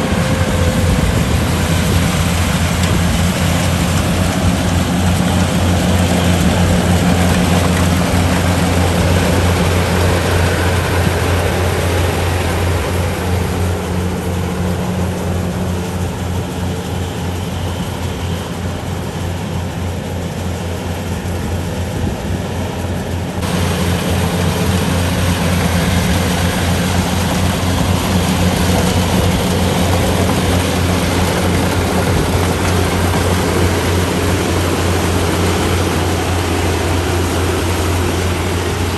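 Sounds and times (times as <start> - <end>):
diesel engine deep hum: 0.0 - 38.9.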